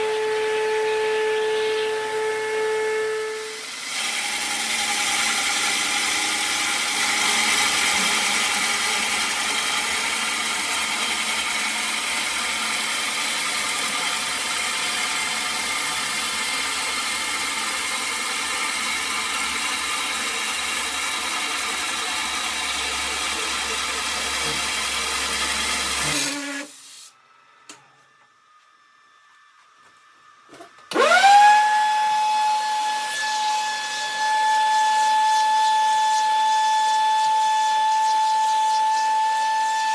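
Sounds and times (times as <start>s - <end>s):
lathe whining: 0.0s - 26.8s, 30.9s - 39.9s
lathe cutting noise: 0.2s - 26.8s, 30.9s - 39.9s.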